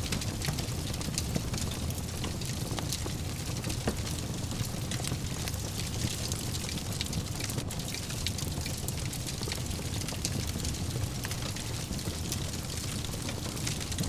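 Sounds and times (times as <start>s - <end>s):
fire crackling in a fireplace: 0.0s - 14.0s.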